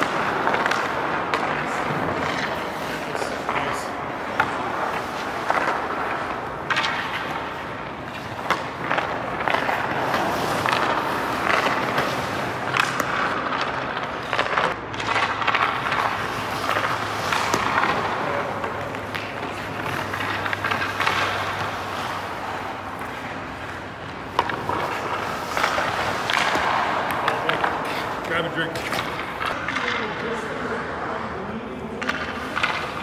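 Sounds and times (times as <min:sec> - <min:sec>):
skate blades scraping ice: 0:00.0 - 0:33.0
sticks and pucks clacking: 0:00.0 - 0:33.0.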